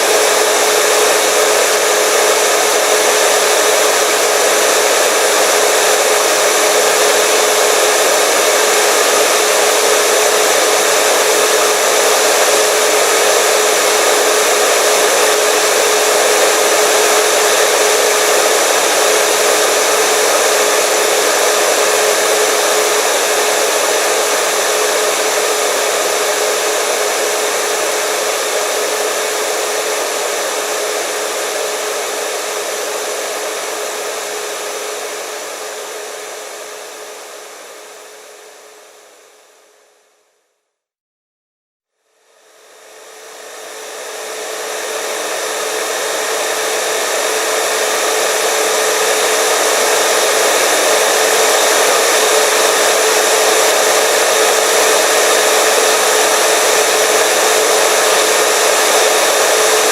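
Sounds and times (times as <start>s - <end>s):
hair dryer running: 0.0s - 40.0s, 42.2s - 59.9s.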